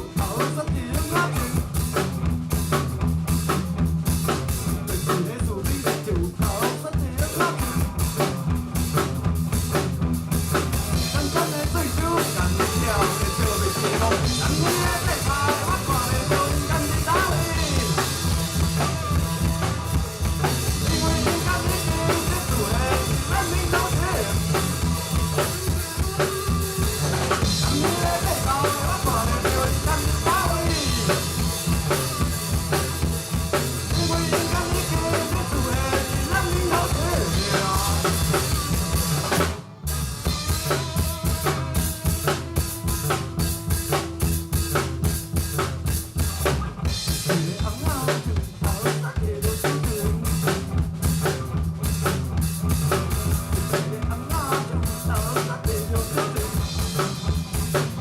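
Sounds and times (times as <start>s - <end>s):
bass drum and snare: 0.0s - 58.0s
live band playing loudly: 0.0s - 58.0s.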